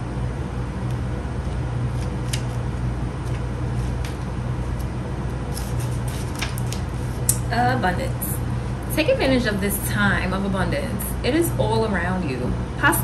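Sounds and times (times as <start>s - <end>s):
low mechanical hum and rumble: 0.0s - 13.0s.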